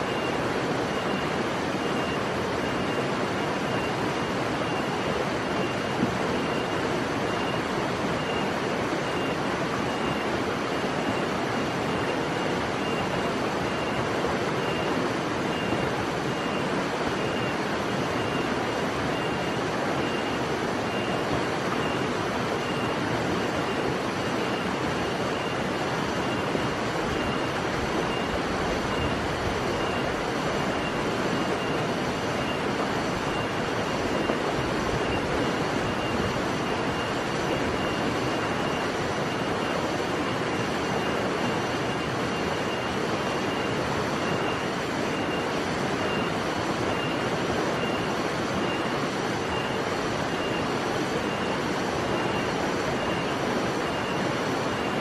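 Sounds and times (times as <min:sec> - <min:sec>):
steady rushing noise: 0:00.0 - 0:55.0.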